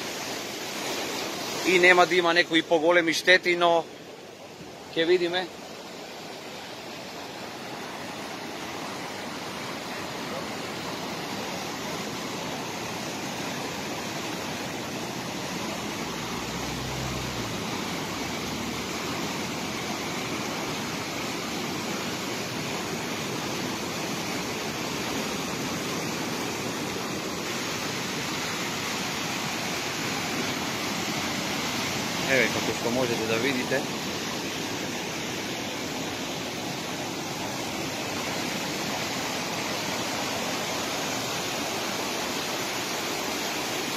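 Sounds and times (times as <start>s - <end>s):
flooded river roaring: 0.0s - 43.9s.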